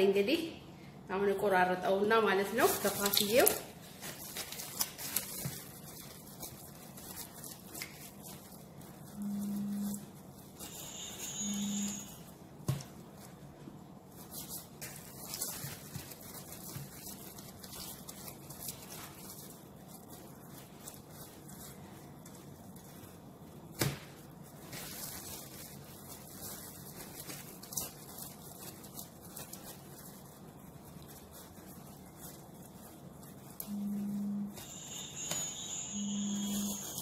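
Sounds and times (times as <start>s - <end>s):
handling pizza dough: 2.4s - 37.0s.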